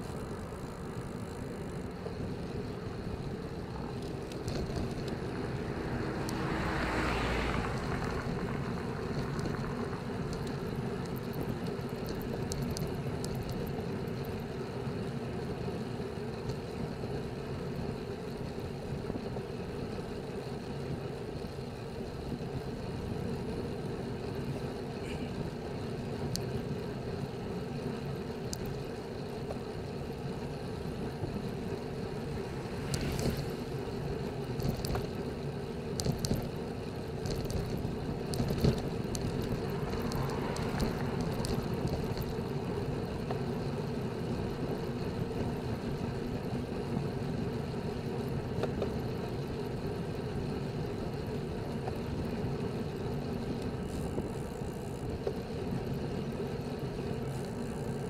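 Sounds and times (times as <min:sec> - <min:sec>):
bicycle tyre noise: 0:00.0 - 0:58.0.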